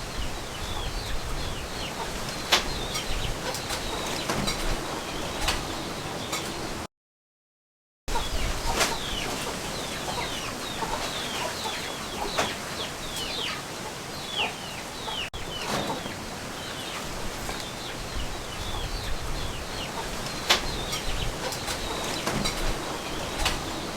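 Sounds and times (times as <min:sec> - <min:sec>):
birds chirping: 0:00.0 - 0:06.8, 0:08.1 - 0:23.9.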